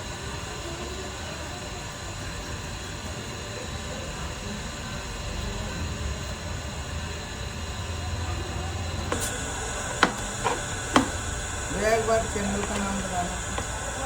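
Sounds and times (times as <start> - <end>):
busy street din: 0.0 - 14.0.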